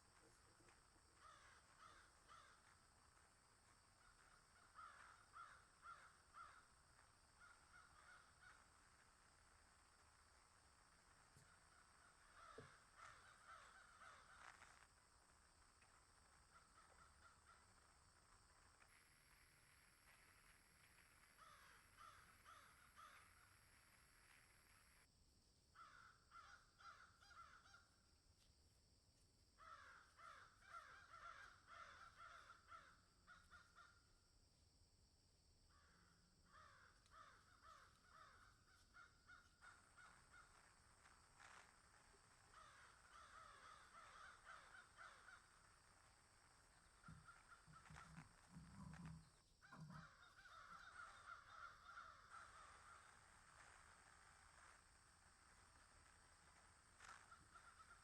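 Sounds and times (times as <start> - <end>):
faint animal calls: 0.0 - 25.1, 25.8 - 28.0, 29.6 - 34.2, 35.7 - 58.0.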